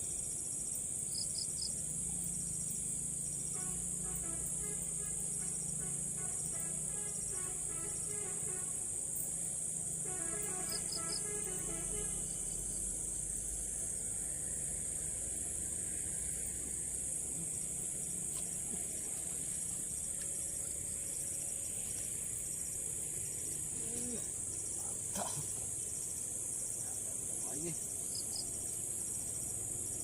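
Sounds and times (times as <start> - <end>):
crickets and insects chirring: 0.0 - 30.0
rapid pulsed insect chirps: 0.0 - 30.0.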